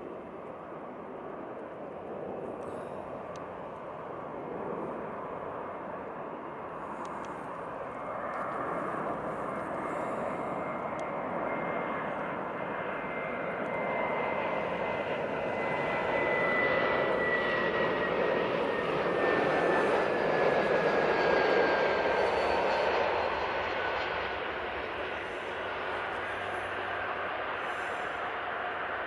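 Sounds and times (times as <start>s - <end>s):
jet airliner engines approaching: 0.0s - 29.0s.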